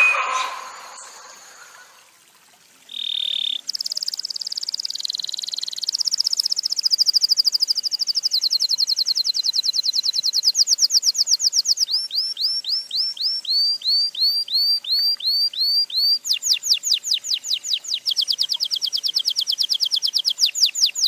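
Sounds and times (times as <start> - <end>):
canary singing: 0.0 - 1.8, 2.9 - 21.0.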